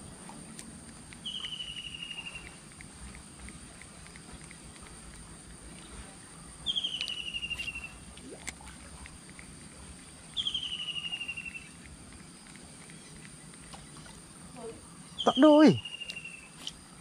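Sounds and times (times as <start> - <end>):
faint high hum: 0.0 - 17.0.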